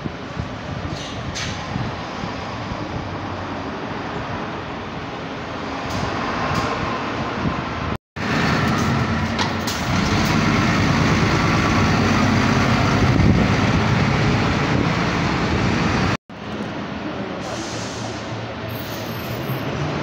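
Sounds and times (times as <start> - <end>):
bus diesel engine pulling away: 2.6 - 20.0.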